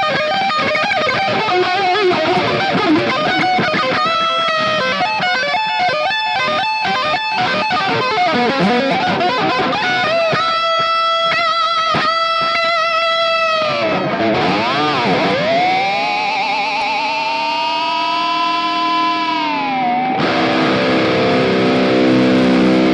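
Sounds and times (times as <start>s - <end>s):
electric guitar lead: 0.0s - 22.9s.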